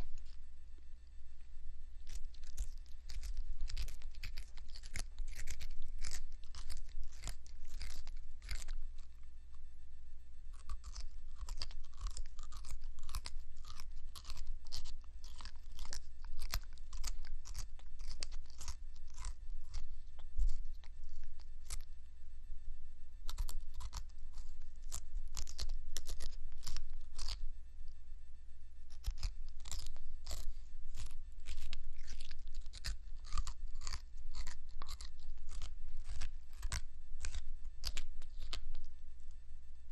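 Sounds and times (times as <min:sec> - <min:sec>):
grasshopper chewing leaf: 0:00.0 - 0:00.5, 0:01.6 - 0:09.6, 0:10.4 - 0:22.0, 0:23.2 - 0:28.0, 0:28.8 - 0:39.3
steady low hum: 0:00.0 - 0:39.9.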